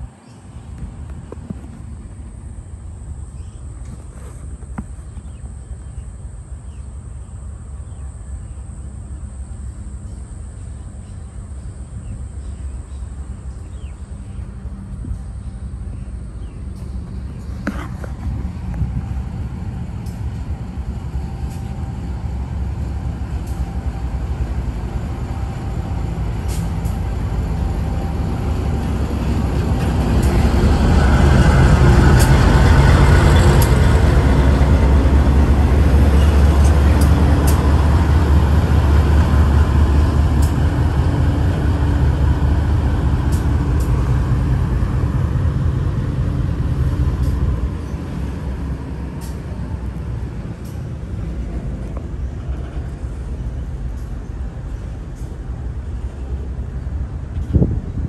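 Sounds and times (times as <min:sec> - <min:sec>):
locomotive engine rumble: 0:00.0 - 0:58.0.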